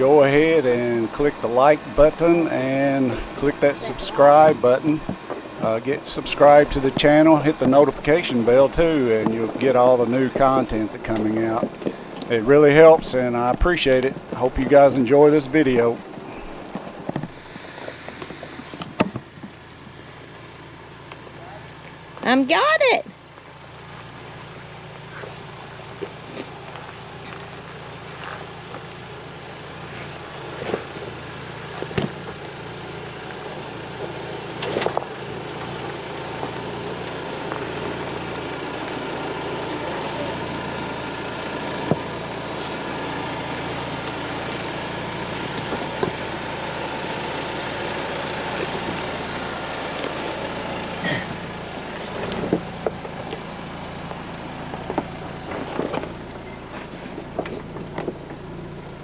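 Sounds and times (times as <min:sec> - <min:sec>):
knocks and clunks from rough ground: 0:00.0 - 0:20.2, 0:23.2 - 0:59.0
vehicle engine and tyre noise: 0:00.0 - 0:59.0.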